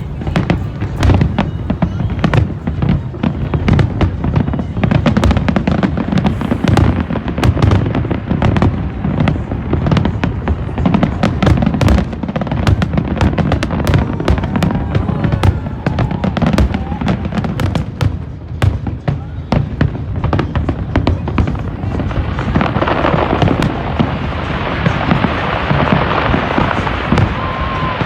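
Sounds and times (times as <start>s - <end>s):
fireworks crackling bursts: 0.0s - 28.0s.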